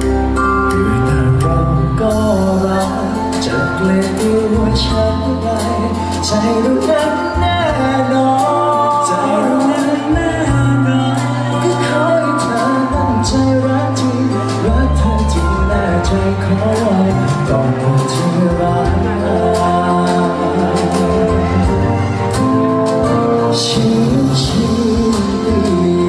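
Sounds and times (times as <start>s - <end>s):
backing music with bass line: 0.0s - 26.0s
men singing into microphones: 0.8s - 21.9s, 23.4s - 26.0s.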